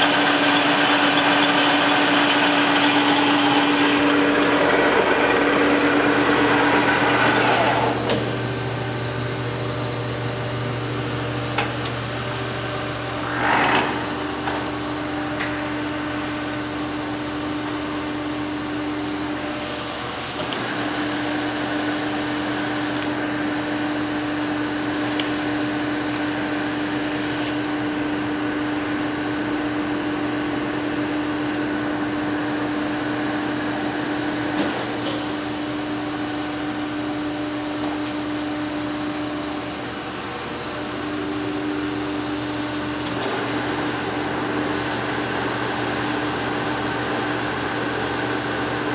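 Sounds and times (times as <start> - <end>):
lathe mechanical hum: 0.0 - 48.9.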